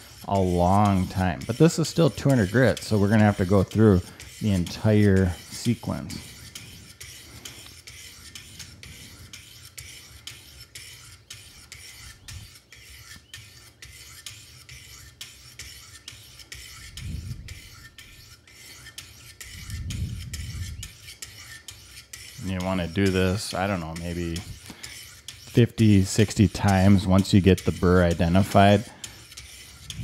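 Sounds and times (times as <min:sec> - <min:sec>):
sharpening stones scraping knife: 0:00.0 - 0:30.0.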